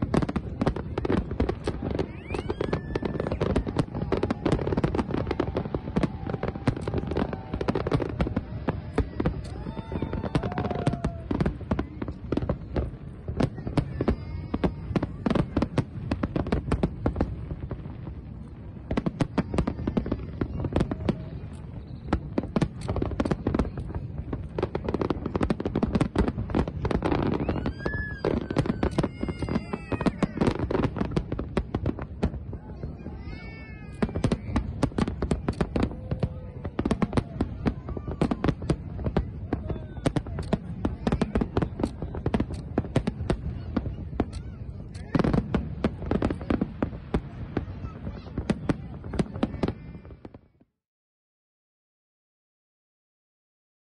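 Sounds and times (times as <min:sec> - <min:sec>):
fireworks bangs and crackles: 0:00.0 - 0:50.8.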